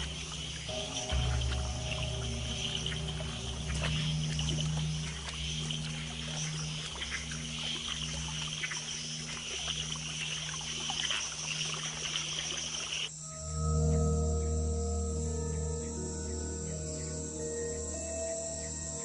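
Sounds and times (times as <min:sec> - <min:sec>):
low steady hum: 0:00.0 - 0:18.8
insects buzzing and chirping: 0:00.0 - 0:19.0.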